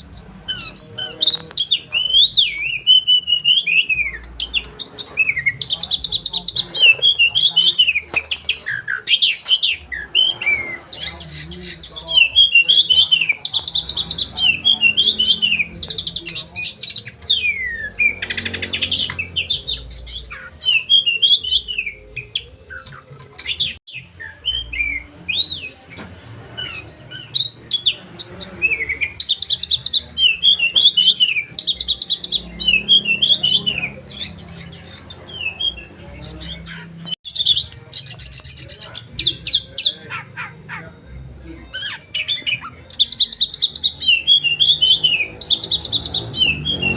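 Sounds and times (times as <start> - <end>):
songbird trilling and whistling: 0.0 - 40.6, 41.7 - 46.9.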